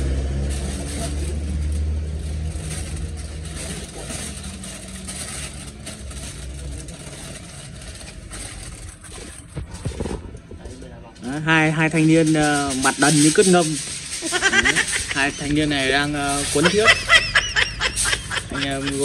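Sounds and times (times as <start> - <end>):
aluminium foil crinkling: 0.0 - 19.0
low engine rumble: 0.0 - 19.0.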